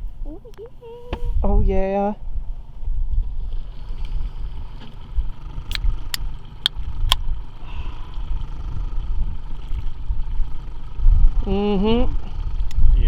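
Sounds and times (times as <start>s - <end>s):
low fluttering rumble: 0.0s - 13.0s.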